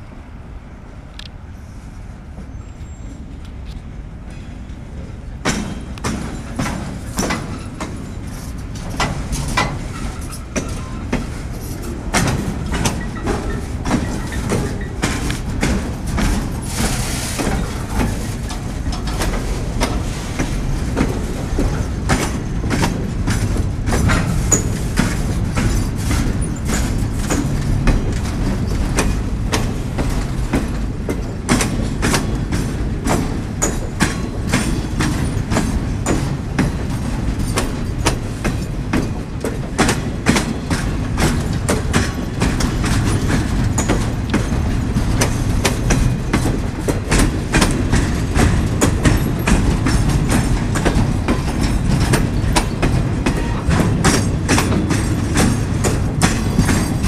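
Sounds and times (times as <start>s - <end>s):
freight train rumbling past: 0.0s - 57.0s
train wheels clanking: 3.5s - 57.0s.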